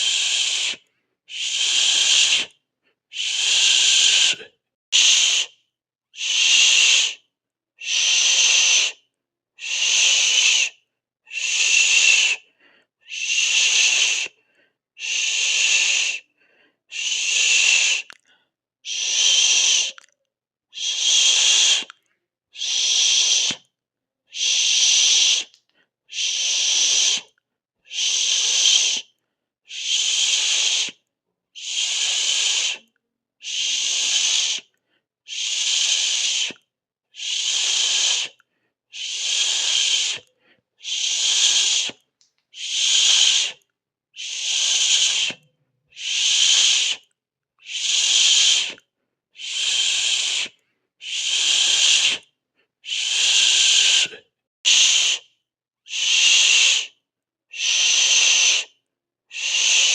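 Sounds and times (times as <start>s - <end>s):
person hissing through mouth: 0.0s - 5.6s, 6.2s - 7.2s, 7.8s - 9.0s, 9.6s - 14.4s, 15.0s - 16.3s, 16.9s - 20.1s, 20.7s - 22.0s, 22.6s - 23.7s, 24.3s - 59.9s.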